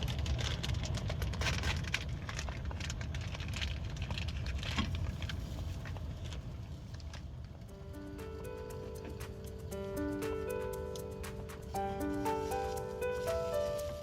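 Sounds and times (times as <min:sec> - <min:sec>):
low fire rumble: 0:00.0 - 0:14.0
wood fire crackling: 0:00.0 - 0:14.0.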